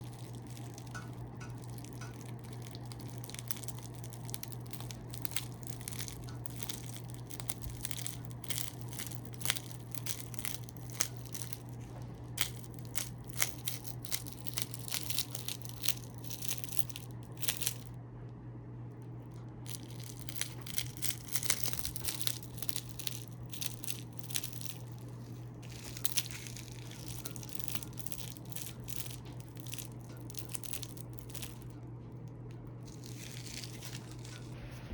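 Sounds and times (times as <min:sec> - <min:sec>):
soap crackling and tearing: 0:00.0 - 0:17.9, 0:19.7 - 0:31.8, 0:32.4 - 0:34.9
steady low hum: 0:00.0 - 0:34.9.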